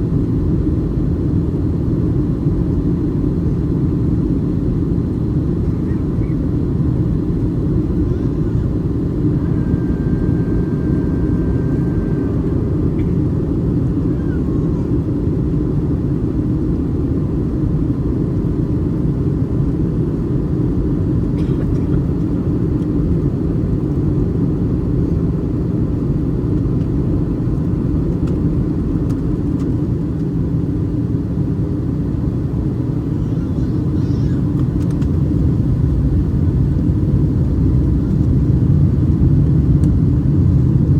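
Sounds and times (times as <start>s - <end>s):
airplane cabin drone: 0.0s - 40.9s.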